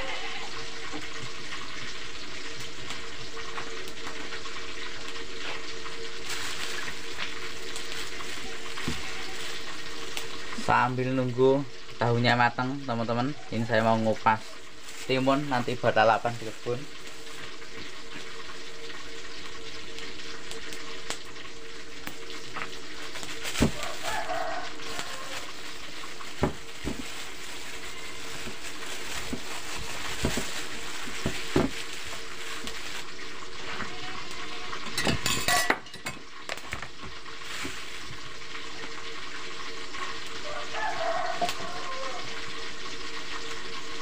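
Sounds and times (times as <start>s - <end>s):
tofu sizzling in hot oil: 0.0s - 44.0s.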